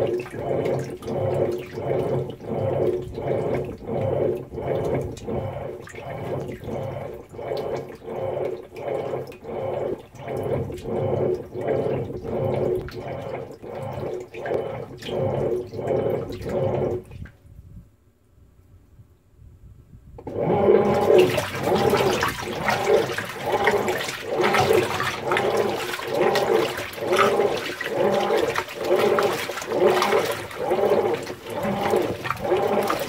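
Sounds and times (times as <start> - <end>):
washing machine water sloshing: 0.0 - 17.4, 20.2 - 33.0.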